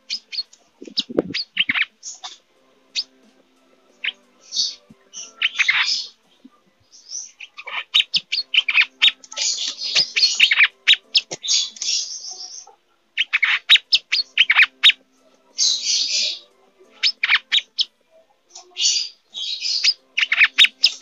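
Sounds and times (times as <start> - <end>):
bird chirps and trills: 0.0 - 21.0.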